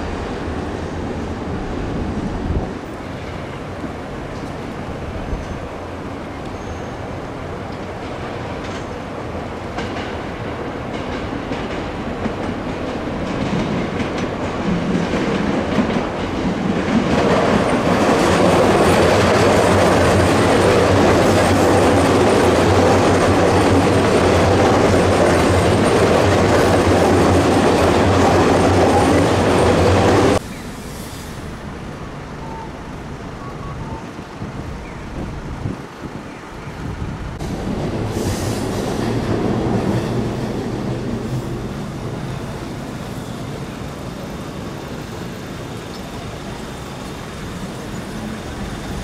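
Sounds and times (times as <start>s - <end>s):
electric train passing: 0.0s - 49.0s
street traffic: 0.0s - 49.0s.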